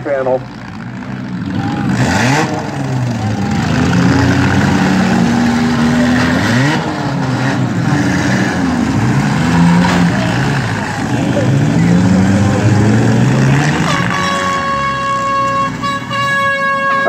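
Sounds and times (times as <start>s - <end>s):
car engines revving: 0.0s - 16.4s.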